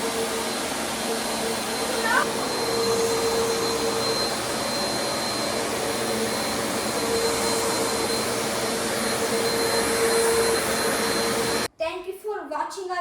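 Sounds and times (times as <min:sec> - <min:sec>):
thin high whine: 0:00.0 - 0:11.7
vacuum cleaner running: 0:00.0 - 0:11.7.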